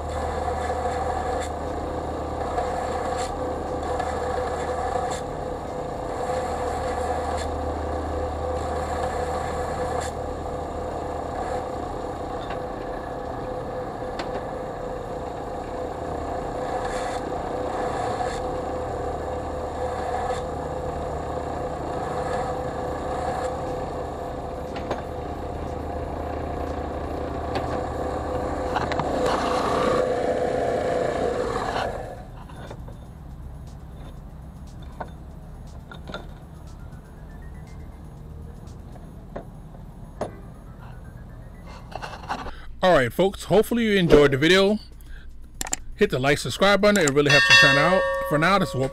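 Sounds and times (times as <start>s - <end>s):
high motor whine: 0.0s - 43.1s, 43.8s - 48.9s.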